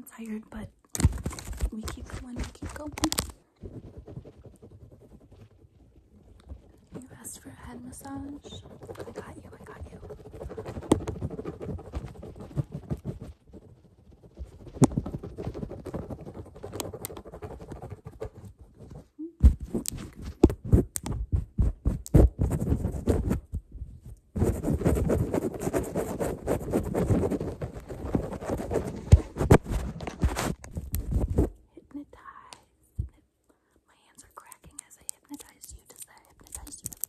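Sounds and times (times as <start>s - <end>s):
fingertips rubbing on microphone: 1.0s - 31.6s, 34.1s - 37.0s.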